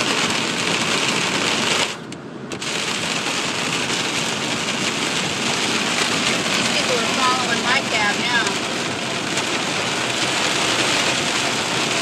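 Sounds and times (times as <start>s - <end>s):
rain and hail pelting car roof: 0.0s - 12.0s.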